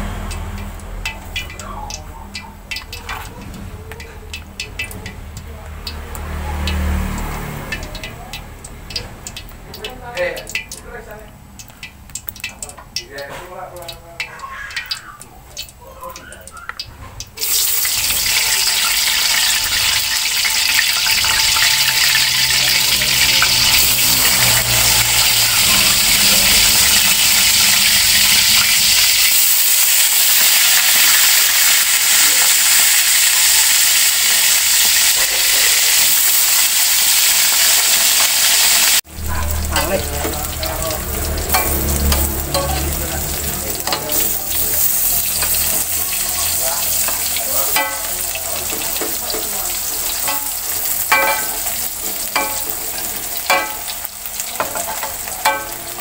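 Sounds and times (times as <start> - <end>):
tofu sizzling in hot oil: 0.1 - 56.0.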